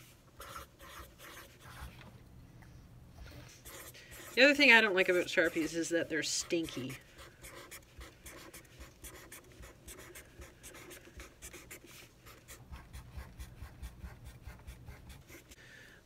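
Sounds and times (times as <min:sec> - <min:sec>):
marker scratching on paper: 0:00.0 - 0:02.0, 0:03.5 - 0:15.6.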